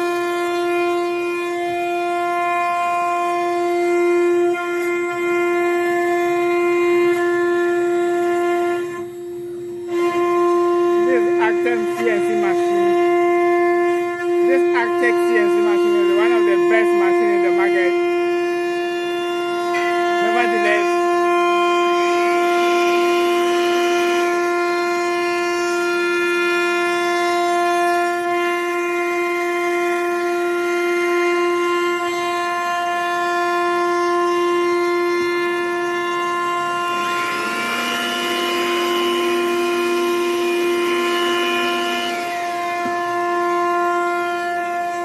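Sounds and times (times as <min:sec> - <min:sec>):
drive motors whining: 0:00.0 - 0:45.0
router spindle whine: 0:00.0 - 0:45.0.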